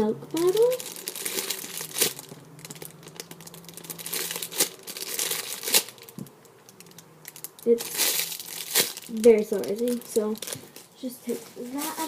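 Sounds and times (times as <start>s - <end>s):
plastic packaging crinkling: 0.3s - 12.0s
sharp plastic crackles: 0.3s - 12.0s.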